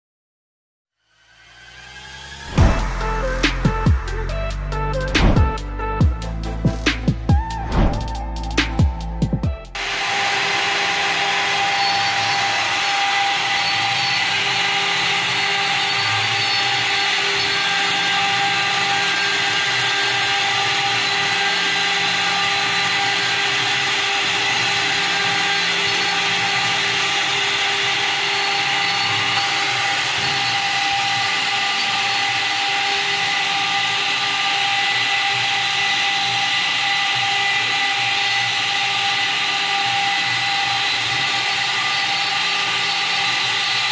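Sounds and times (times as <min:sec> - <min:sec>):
router spindle whining: 0:01.1 - 0:43.9.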